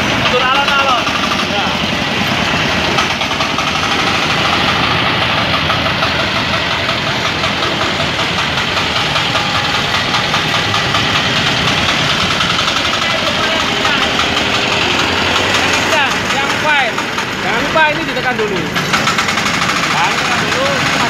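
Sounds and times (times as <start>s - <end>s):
diesel engine knocking clatter: 0.0s - 21.0s.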